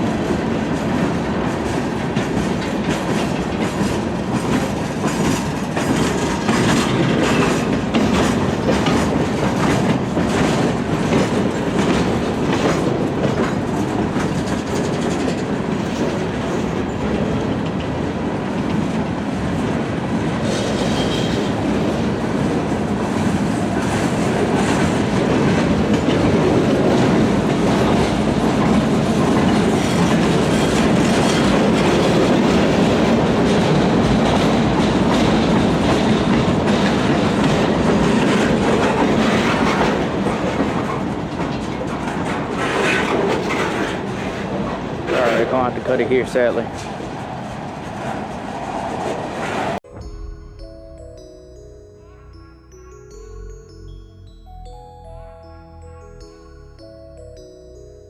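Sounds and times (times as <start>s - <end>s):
freight train wheels clattering: 0.0s - 49.6s.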